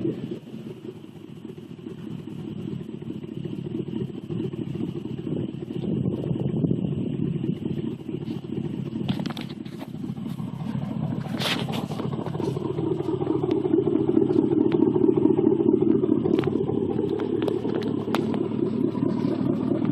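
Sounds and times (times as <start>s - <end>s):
pickup truck exhaust revving: 0.0s - 19.9s.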